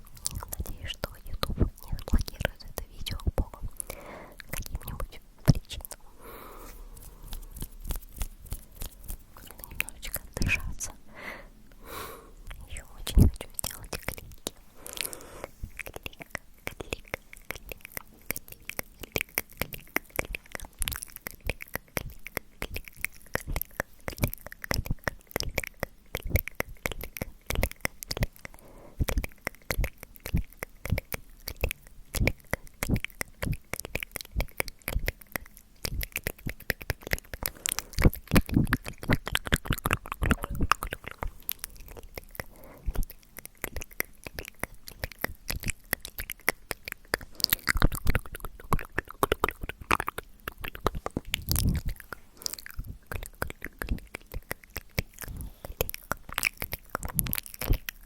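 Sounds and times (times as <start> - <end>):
tongue clicks: 0.0 - 6.0, 6.6 - 11.0, 12.4 - 58.0
lip smacks: 0.0 - 11.0, 11.7 - 58.0
wet mouth clicks: 0.0 - 11.0, 11.7 - 58.0.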